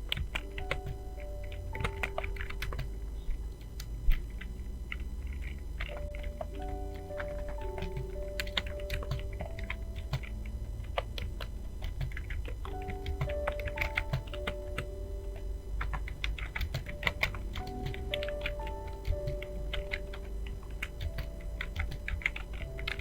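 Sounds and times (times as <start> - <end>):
background music with short melody: 0.0 - 23.0.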